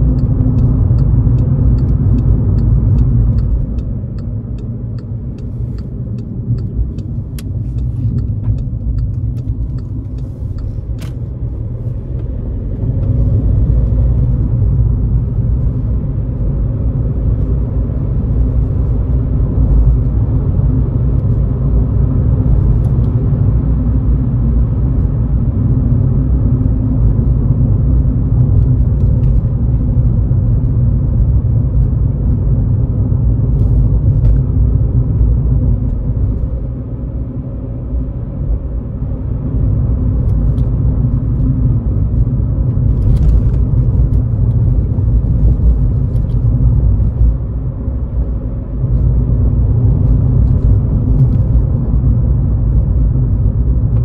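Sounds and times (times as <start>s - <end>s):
car engine drone: 0.0s - 54.0s
tyre and road rumble: 0.0s - 54.0s.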